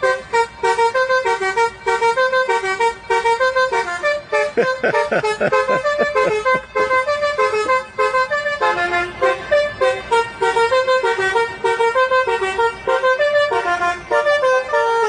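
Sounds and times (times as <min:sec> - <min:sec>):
musical car horn tune: 0:00.0 - 0:15.0.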